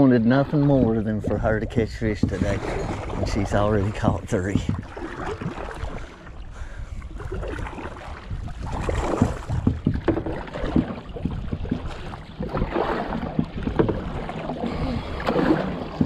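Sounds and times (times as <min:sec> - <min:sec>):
water splashing against boat: 0:00.0 - 0:16.0.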